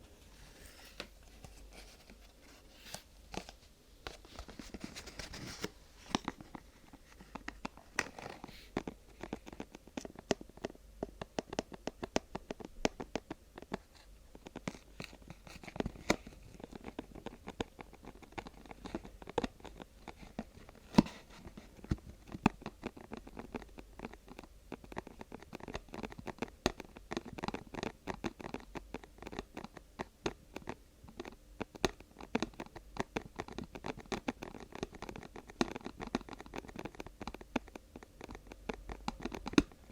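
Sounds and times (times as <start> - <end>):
plastic crinkling and scratching: 0.2 - 39.9.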